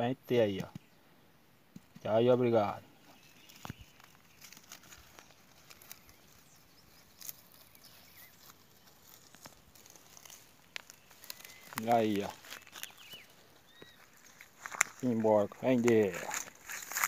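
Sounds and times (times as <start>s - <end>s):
rustling of dry grass and leaves: 1.8s - 17.0s.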